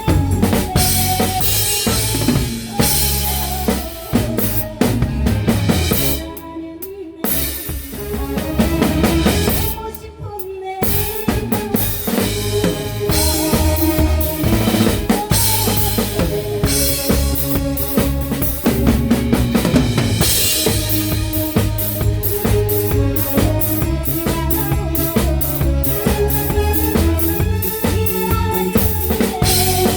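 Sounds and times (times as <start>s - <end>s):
electric bass and guitar: 0.0s - 6.2s, 10.8s - 29.9s
drum kit: 0.0s - 29.9s.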